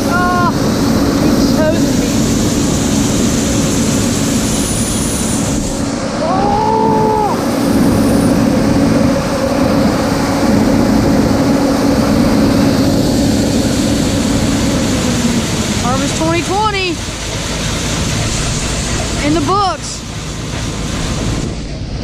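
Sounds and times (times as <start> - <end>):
farm machinery engine rumbling: 0.0 - 22.0.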